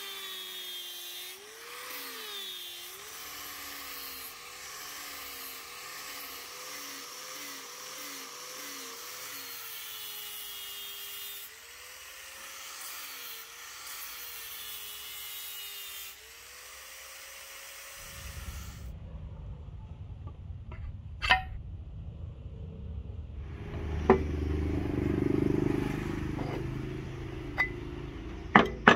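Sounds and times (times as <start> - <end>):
angle grinder motor whine: 0.0 - 18.9, 23.4 - 28.9.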